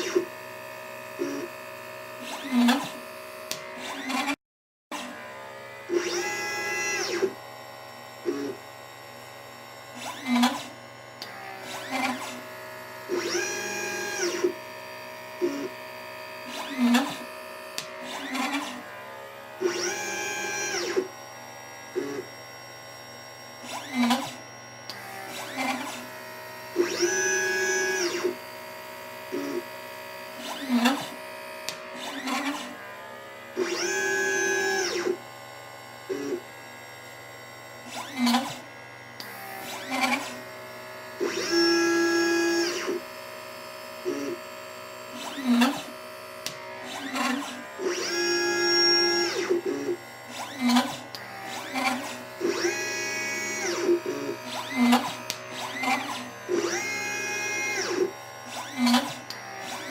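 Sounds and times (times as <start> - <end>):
stepper motors whining: 0.0 - 4.4, 5.0 - 59.9.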